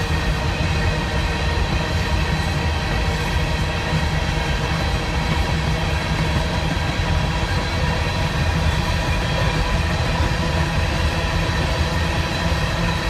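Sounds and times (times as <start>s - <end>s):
steel wheels running on rails: 0.0s - 13.0s.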